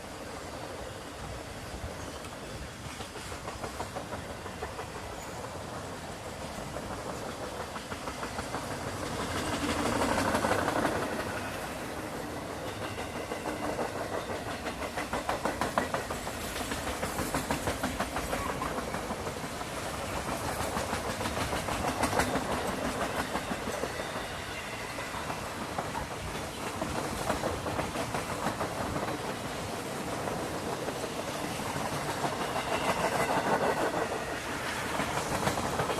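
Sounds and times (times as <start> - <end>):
freight train cars rolling: 0.0 - 35.9
wheels clicking over rail joints: 2.0 - 35.9.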